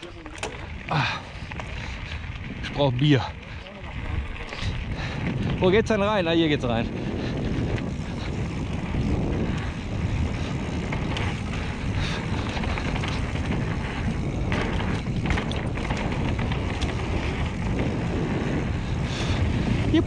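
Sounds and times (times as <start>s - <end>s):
bike clicks and rattles: 0.0s - 20.0s
tyres rumbling over dirt: 0.0s - 20.0s
wind buffeting microphone: 0.0s - 20.0s.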